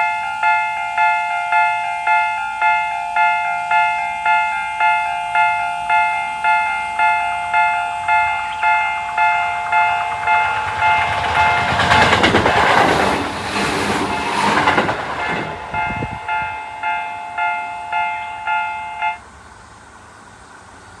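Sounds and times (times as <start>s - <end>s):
level crossing warning bell: 0.0s - 12.5s, 14.0s - 19.2s
train rushing past: 0.0s - 19.3s.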